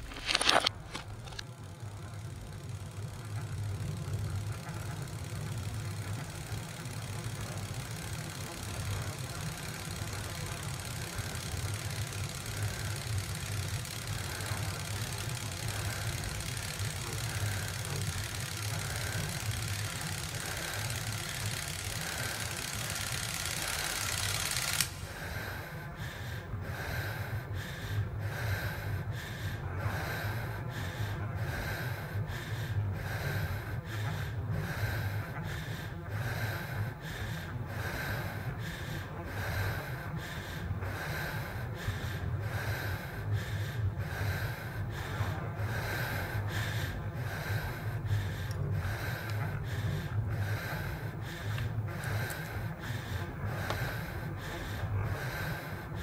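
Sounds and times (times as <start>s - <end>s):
rhythmic breath-like puffs: 0.0s - 56.0s
steady low hum: 0.0s - 56.0s.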